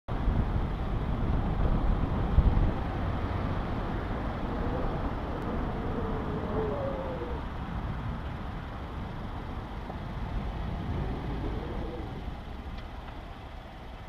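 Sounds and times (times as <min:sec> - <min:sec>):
wind on microphone: 0:00.1 - 0:12.7
car engine and tyre rumble: 0:00.1 - 0:14.0.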